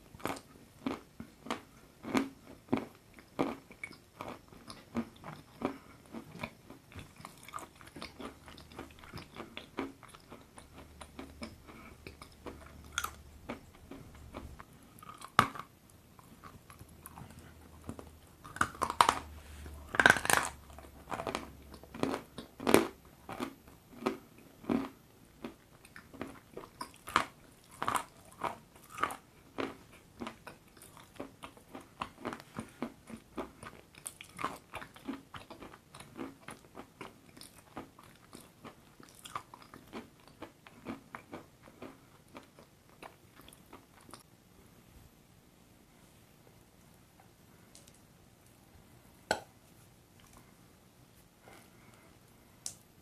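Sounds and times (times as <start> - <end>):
crunching hard food: 0.1 - 44.2.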